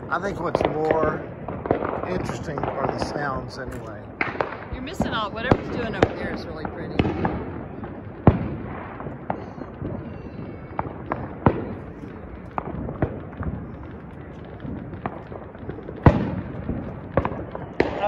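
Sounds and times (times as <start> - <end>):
distant fireworks pops and booms: 0.0 - 18.0
loud fireworks bangs: 0.0 - 18.0.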